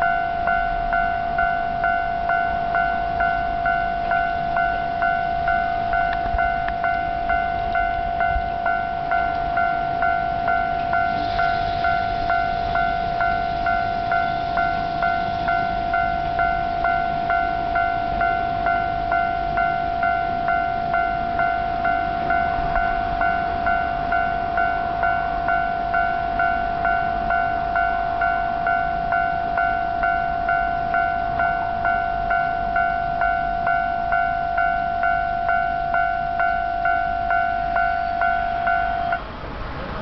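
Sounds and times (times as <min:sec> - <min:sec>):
level crossing bell clanging: 0:00.0 - 0:39.2.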